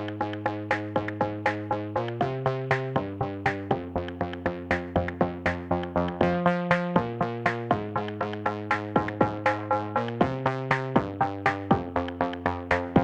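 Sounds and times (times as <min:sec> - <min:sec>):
light electronic music: 0:00.0 - 0:13.0.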